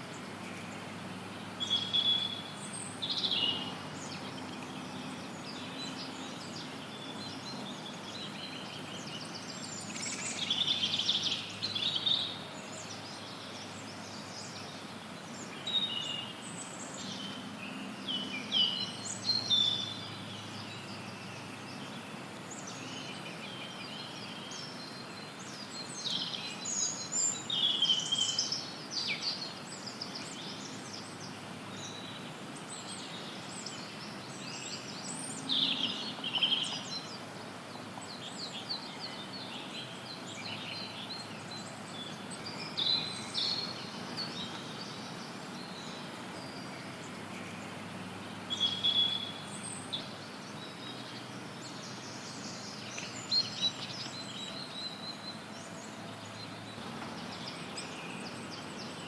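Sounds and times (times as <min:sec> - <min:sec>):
songbirds chirping and trilling: 0:00.0 - 0:59.0
white noise hiss: 0:00.0 - 0:59.0.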